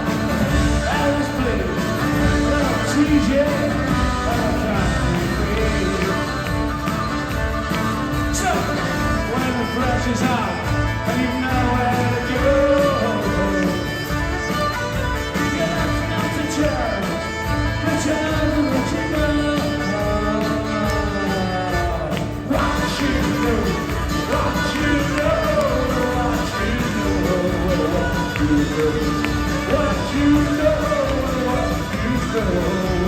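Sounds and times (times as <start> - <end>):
live singing with instruments: 0.0 - 33.0.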